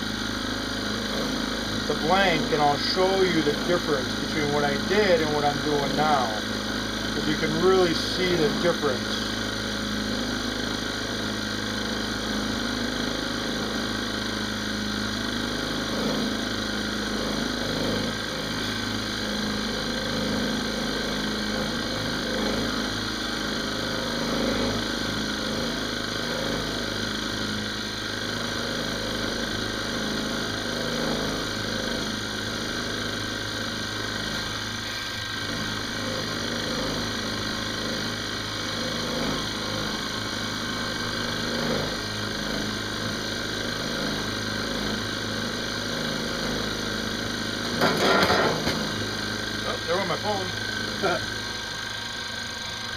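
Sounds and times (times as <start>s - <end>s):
milling machine cutting aluminum: 0.0s - 52.8s.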